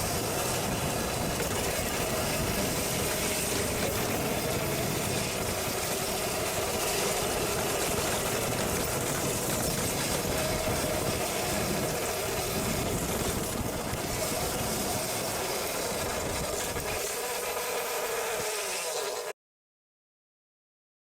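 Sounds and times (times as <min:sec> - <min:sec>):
electric motor and chain whine: 0:00.0 - 0:19.3
wind: 0:00.0 - 0:19.4.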